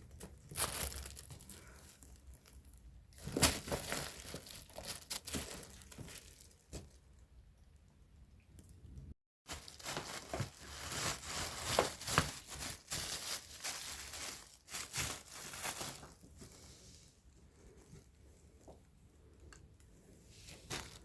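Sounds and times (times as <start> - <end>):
crinkling and rustling: 0.0 - 7.3, 9.5 - 21.0.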